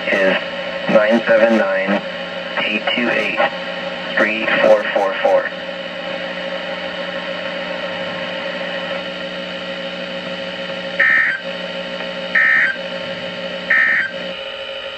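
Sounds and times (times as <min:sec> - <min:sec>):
buzzy radio broadcast hum: 0:00.0 - 0:14.9.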